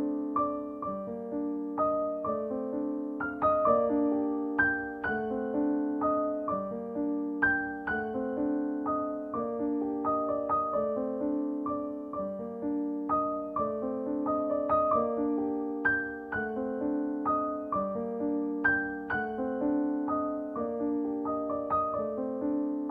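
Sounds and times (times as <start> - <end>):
gentle piano music: 0.0 - 22.9.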